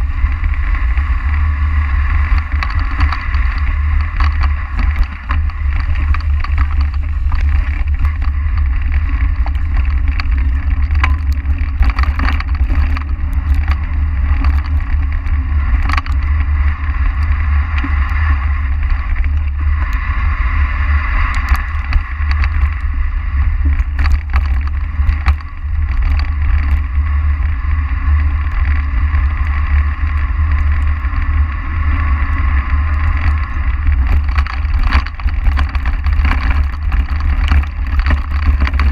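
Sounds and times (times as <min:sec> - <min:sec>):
bike rattling on rough ground: 0:00.0 - 0:38.9
wind buffeting microphone: 0:00.0 - 0:38.9.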